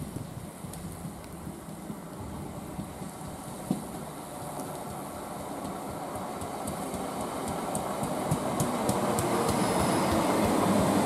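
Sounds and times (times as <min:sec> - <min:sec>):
train wheels rumbling on rail: 0:00.0 - 0:11.0
light clicking from wheels: 0:00.6 - 0:11.0.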